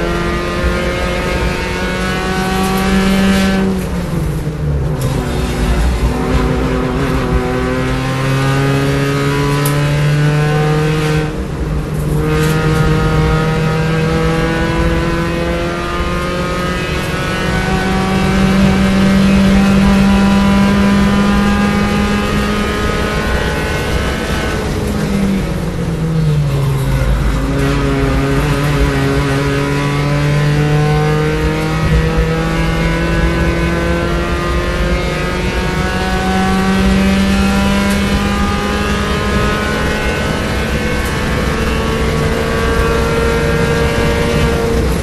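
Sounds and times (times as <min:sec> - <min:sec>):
race car engine at full throttle: 0:00.0 - 0:45.0.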